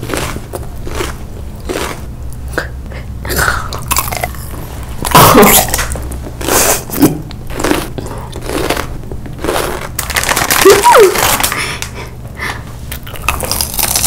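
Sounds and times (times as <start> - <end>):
biting and chewing gummy candy: 0.0 - 2.8, 3.5 - 12.0, 12.9 - 14.0.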